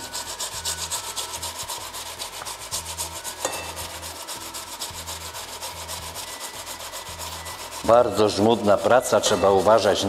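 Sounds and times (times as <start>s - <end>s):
potato grated on metal grater: 0.0s - 10.0s.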